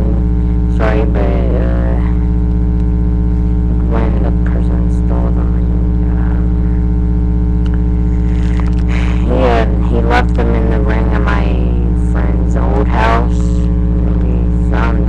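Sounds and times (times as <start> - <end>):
loud electrical hum: 0.0 - 15.0.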